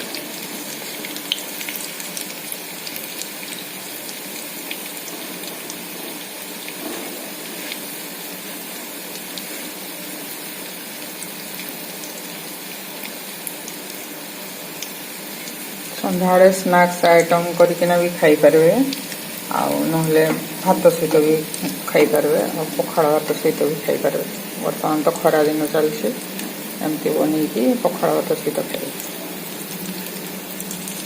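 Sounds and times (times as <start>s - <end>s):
fritters sizzling in hot oil: 0.0s - 31.0s.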